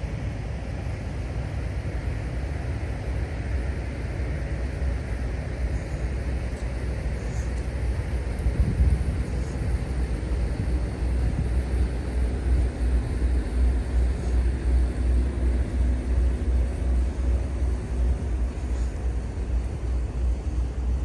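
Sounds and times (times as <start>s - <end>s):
faint steady hum: 0.0s - 21.0s
low city rumble: 0.0s - 21.0s.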